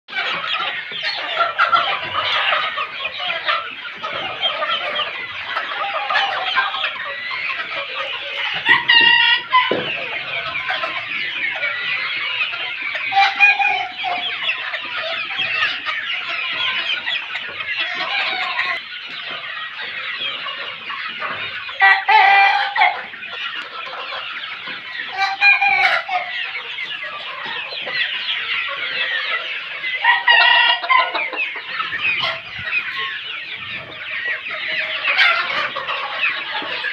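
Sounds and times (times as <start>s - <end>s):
chickens clucking and chattering: 0.1s - 36.9s
young cockerels calling: 0.1s - 36.9s.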